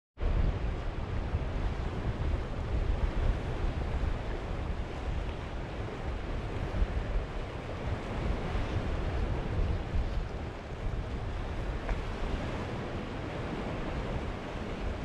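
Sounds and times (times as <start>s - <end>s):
wind buffeting microphone: 0.2s - 15.0s
waves breaking on rocky shore: 1.0s - 15.0s.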